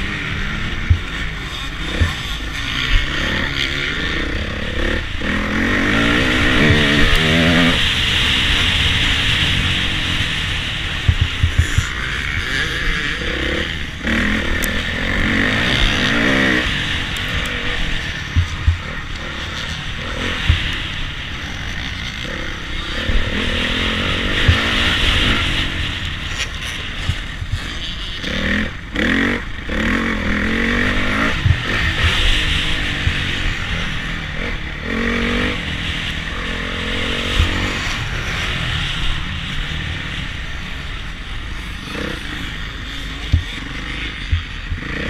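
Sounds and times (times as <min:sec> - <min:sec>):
motorcycle engine revving: 0:00.0 - 0:45.0
wind noise: 0:00.0 - 0:45.0.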